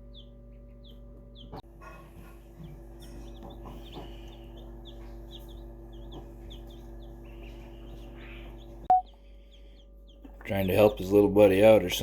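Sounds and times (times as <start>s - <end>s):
ducklings peeping: 0.0s - 12.0s
steady low hum: 0.0s - 12.0s.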